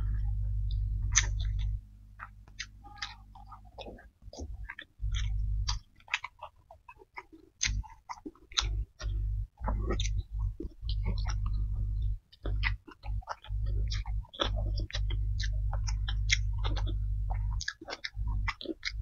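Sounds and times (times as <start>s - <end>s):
low hum: 0.0s - 19.0s
person chewing food: 0.0s - 19.0s.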